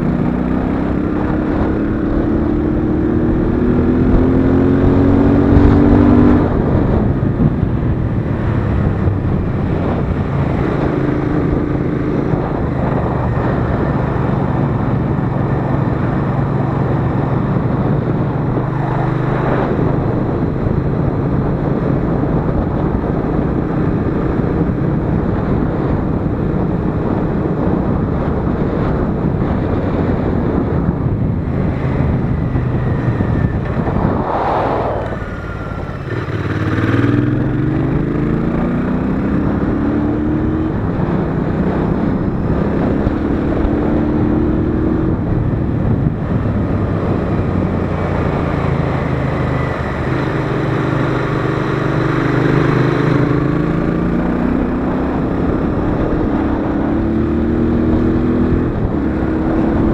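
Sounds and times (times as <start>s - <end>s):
motorcycle engine accelerating: 0.0s - 59.9s
wind rushing over microphone: 0.0s - 59.9s.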